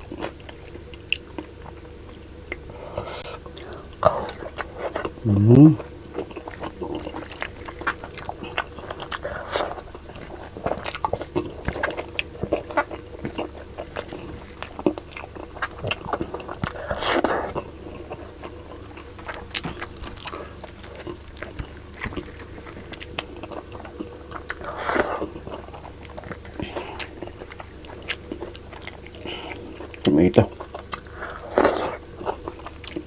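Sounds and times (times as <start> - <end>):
chewing and biting food: 0.0 - 5.2, 5.8 - 33.0.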